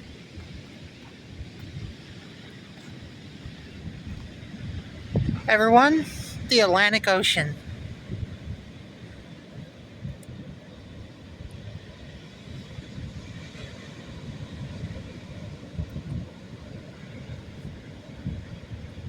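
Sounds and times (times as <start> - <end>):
ocean surf washing on beach: 0.0 - 19.0
wind buffeting microphone: 0.0 - 19.0.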